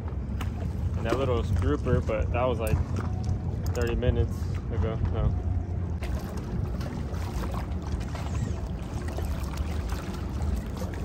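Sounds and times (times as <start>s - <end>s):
small waves lapping: 0.0s - 11.0s.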